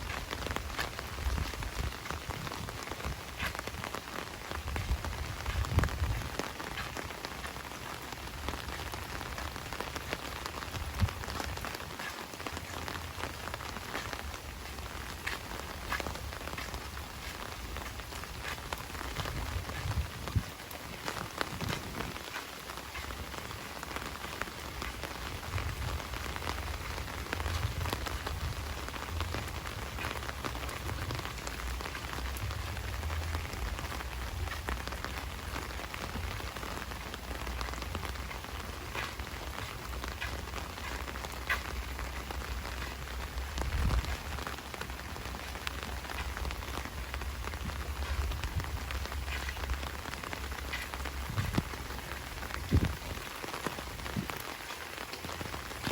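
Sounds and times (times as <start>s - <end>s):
close raindrop hits: 0.0s - 55.9s
heavy rain falling: 0.0s - 55.9s.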